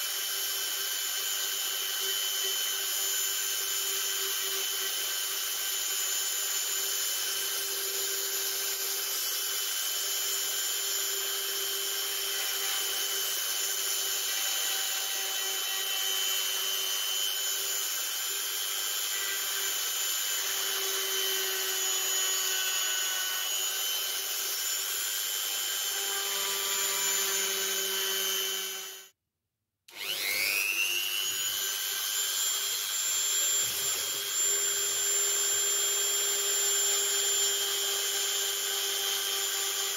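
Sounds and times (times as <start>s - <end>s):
rotary tool whining: 0.0s - 29.1s, 29.9s - 39.9s.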